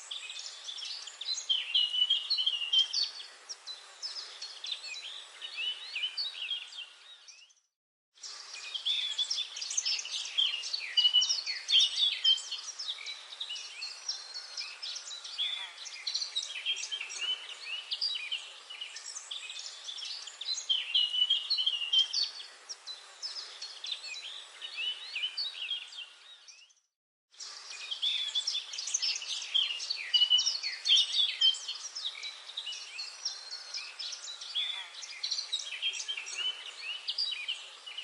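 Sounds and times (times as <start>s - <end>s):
songbirds chirping and singing: 0.0s - 26.8s, 27.4s - 38.0s.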